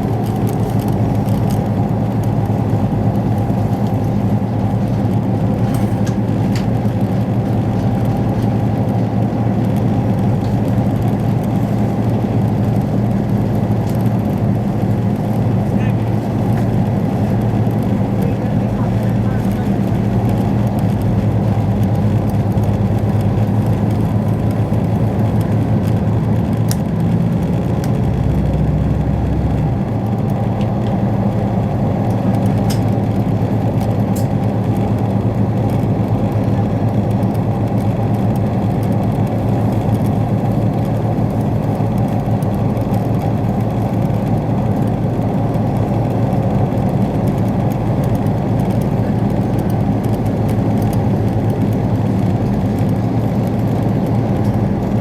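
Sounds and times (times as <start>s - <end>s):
train carriage rumble and hum: 0.0s - 55.0s.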